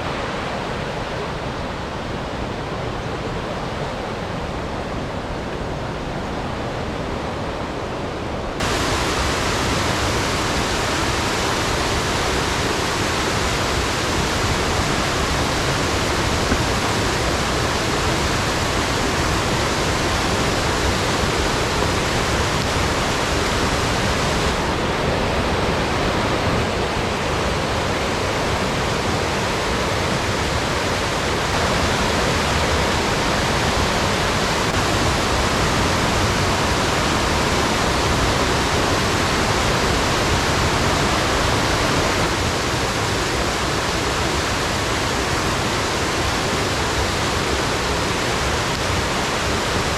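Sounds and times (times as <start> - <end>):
creek and waterfall rushing: 0.0 - 49.9.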